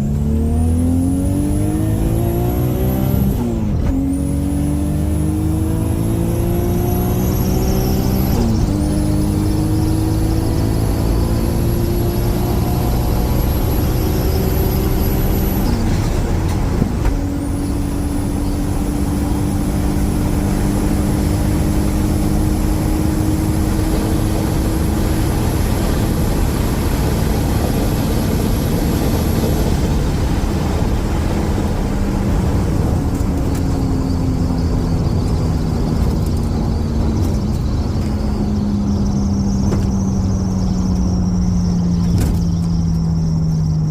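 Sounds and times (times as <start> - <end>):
road and wind noise: 0.0 - 43.9
turbocharged car engine at full throttle: 0.0 - 43.9.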